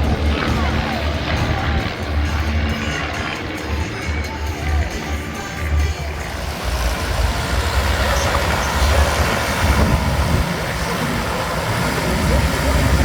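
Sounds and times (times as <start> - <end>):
aircraft roar: 0.0 - 13.0.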